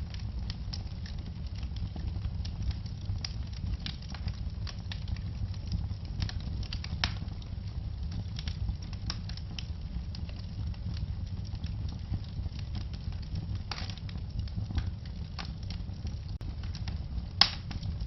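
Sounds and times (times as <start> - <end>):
fire crackling in a fireplace: 0.0 - 18.0.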